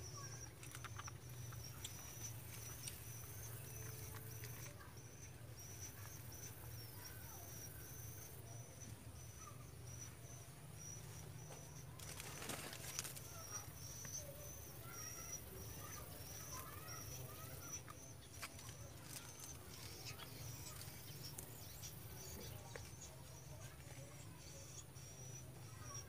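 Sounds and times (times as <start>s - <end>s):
insect chirping: 0.0s - 22.6s
birds calling: 0.0s - 26.0s.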